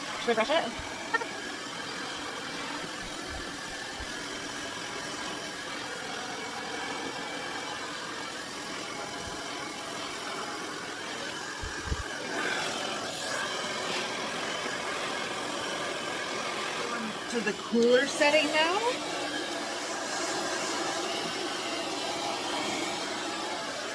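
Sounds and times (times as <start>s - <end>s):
hair dryer blowing: 0.0s - 23.9s.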